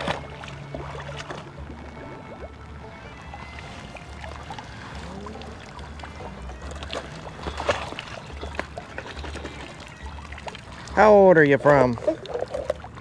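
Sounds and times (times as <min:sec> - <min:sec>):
background music with low beat: 0:00.0 - 0:13.0.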